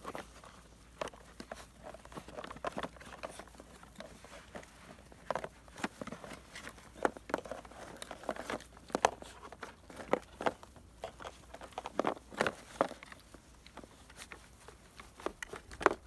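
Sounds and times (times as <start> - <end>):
paws rustling on dry grass: 0.0 - 16.0
puppies licking plastic tubs: 0.0 - 16.0.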